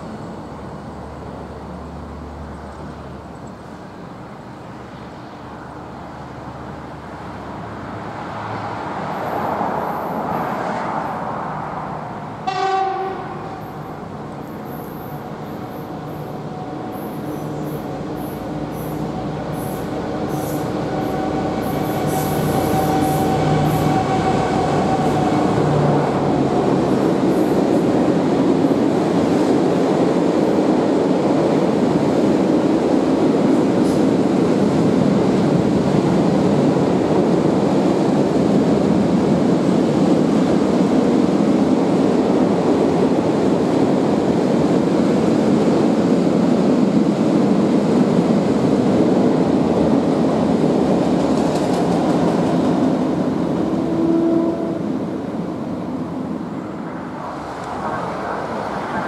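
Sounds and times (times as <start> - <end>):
train wagons rumbling on rails: 5.4 - 59.0.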